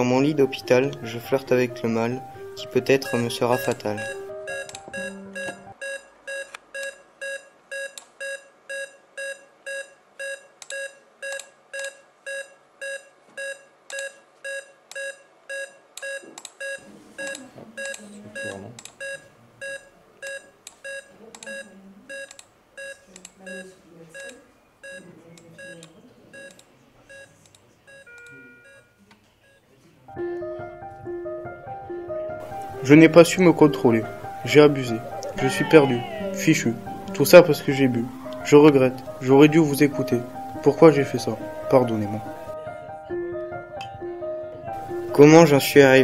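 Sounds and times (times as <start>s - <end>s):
patient monitor beeping: 0.0s - 29.6s, 31.9s - 42.6s.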